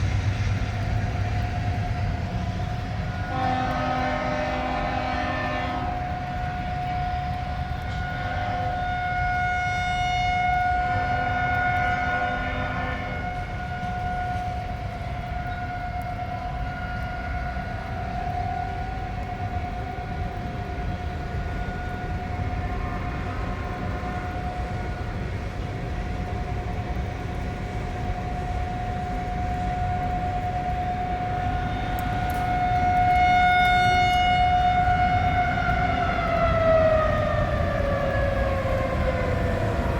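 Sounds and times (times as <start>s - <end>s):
tornado warning siren: 0.0s - 39.9s.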